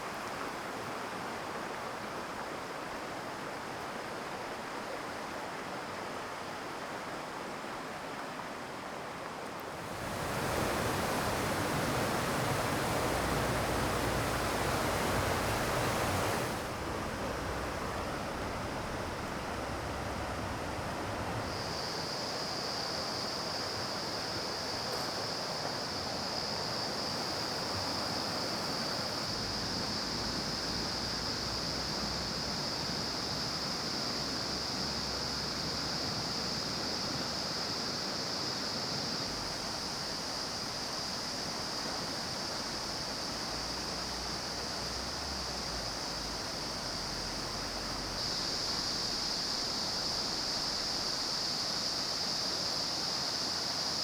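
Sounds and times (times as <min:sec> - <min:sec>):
rushing stream and waterfall: 0:00.0 - 0:54.0.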